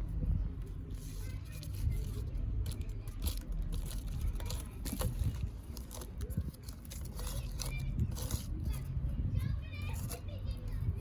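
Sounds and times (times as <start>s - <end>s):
steady low street rumble: 0.0s - 11.0s.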